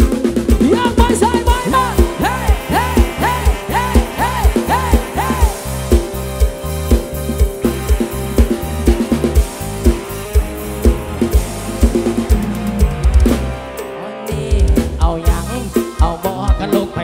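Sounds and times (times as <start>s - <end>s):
drums and bass dance beat: 0.0s - 17.0s.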